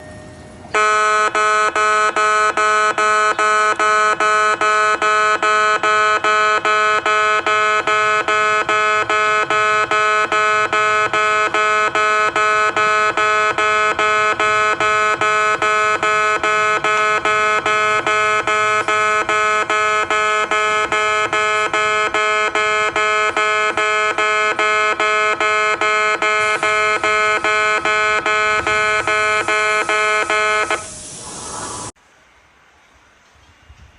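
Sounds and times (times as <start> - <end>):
electronic crossing warning bell: 0.0 - 31.0.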